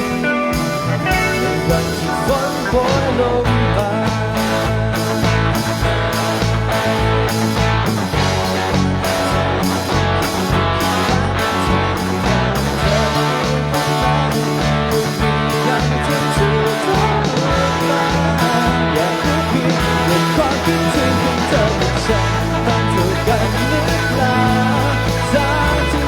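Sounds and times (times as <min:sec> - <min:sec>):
live band playing instrumental: 0:00.0 - 0:26.0.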